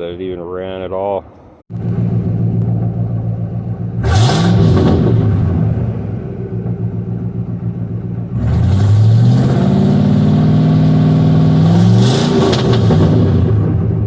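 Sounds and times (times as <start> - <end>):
truck engine revving: 1.7 - 14.0.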